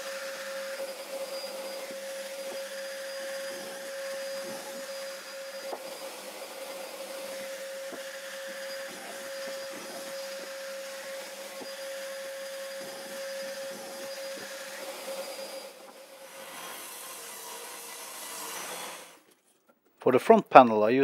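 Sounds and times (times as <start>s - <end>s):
small electric motor whining: 0.0s - 19.3s.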